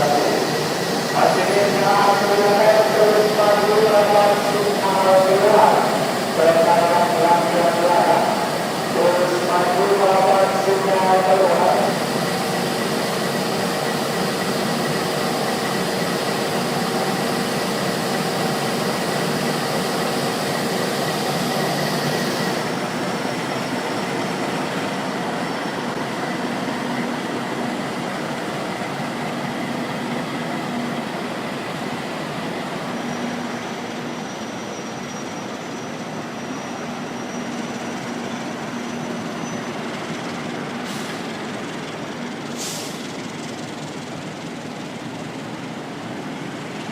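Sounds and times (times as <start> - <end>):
train wheels rushing on rail: 0.0 - 46.9.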